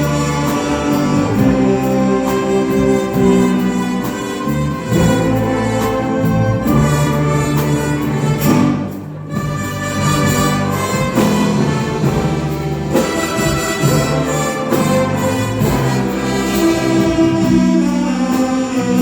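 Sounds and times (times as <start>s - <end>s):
orchestra with bowed strings: 0.0s - 19.0s.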